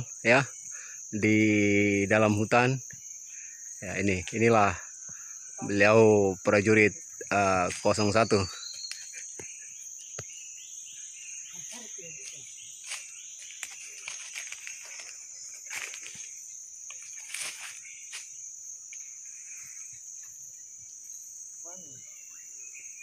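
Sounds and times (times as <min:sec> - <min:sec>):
crickets droning: 0:00.0 - 0:23.0.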